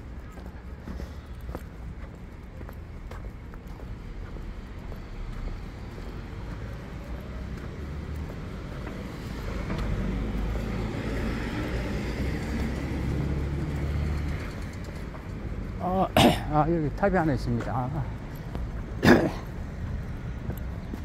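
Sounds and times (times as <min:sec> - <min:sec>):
road traffic rushing: 0:00.0 - 0:21.0
vehicle approaching: 0:00.0 - 0:21.0.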